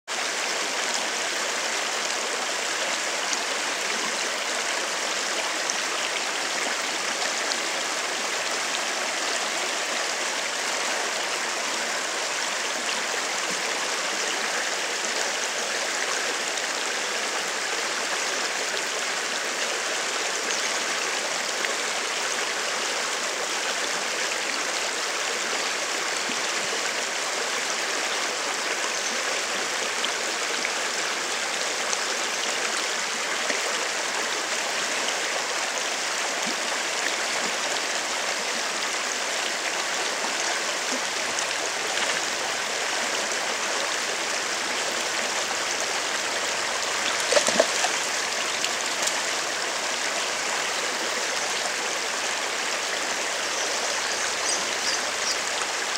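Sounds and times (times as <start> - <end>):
running water rushing: 0.1 - 55.9.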